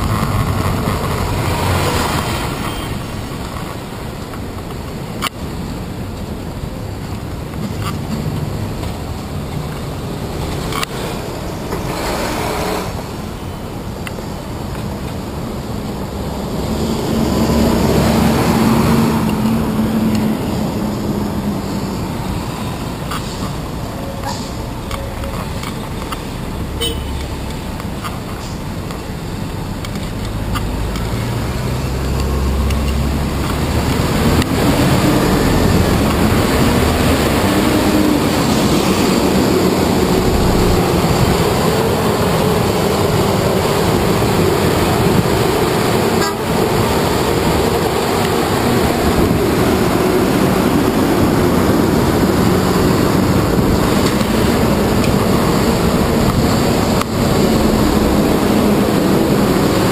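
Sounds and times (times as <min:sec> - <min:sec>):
bus engine running: 0:00.0 - 0:59.9
city traffic rushing: 0:00.0 - 0:59.9.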